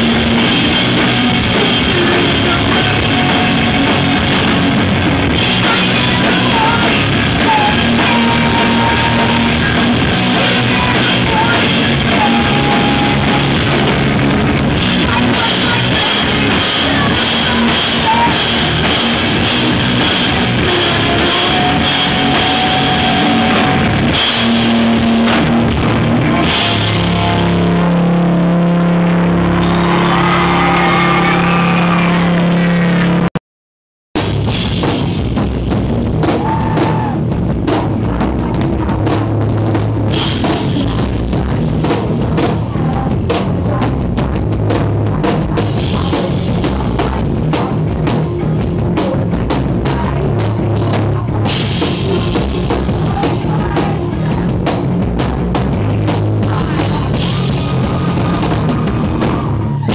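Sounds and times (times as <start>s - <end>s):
live rock band: 0.0s - 33.2s, 34.2s - 59.9s
distorted guitars: 0.0s - 33.4s, 34.2s - 59.9s.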